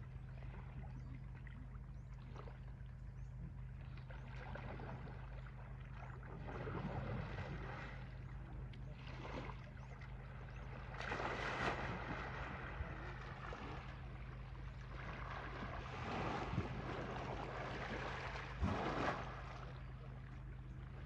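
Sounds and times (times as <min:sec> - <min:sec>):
steady low hum: 0:00.0 - 0:21.0
water sloshing and splashing: 0:00.0 - 0:21.0.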